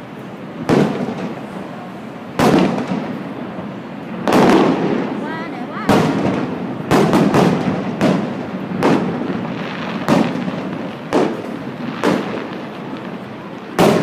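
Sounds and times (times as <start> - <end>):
aerial fireworks bangs: 0.6 - 1.6, 2.3 - 3.4, 4.2 - 5.2, 5.8 - 14.0.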